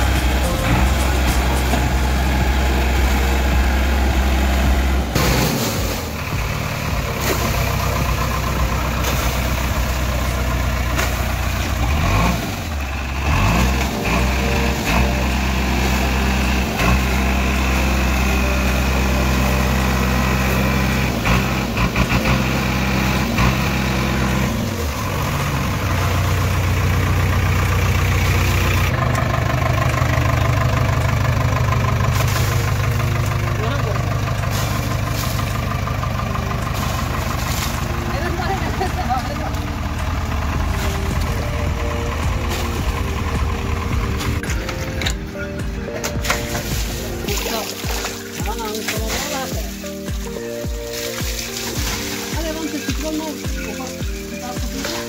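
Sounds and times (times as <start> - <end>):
backhoe loader engine idling: 0.0 - 55.0.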